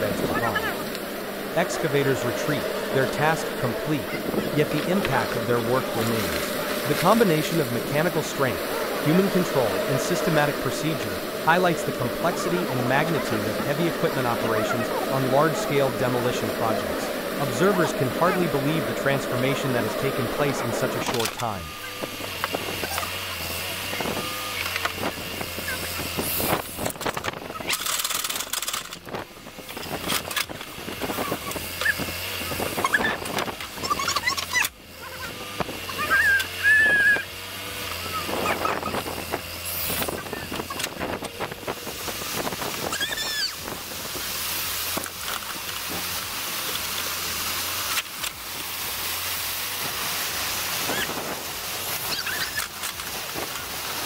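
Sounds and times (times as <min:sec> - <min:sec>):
backhoe engine running: 0:00.0 - 0:54.0
water rushing: 0:00.0 - 0:54.0.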